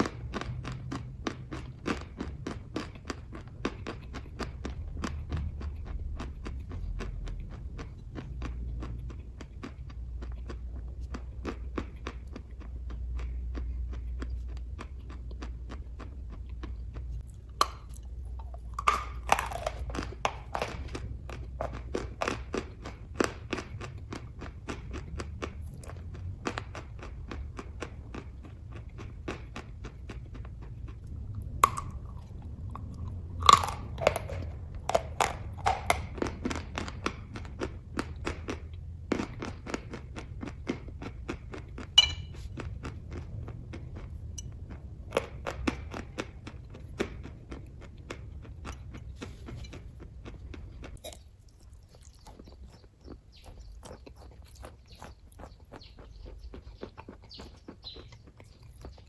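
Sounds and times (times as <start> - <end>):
person chewing: 0.0 - 59.0
wet mouth clicks: 0.0 - 59.0.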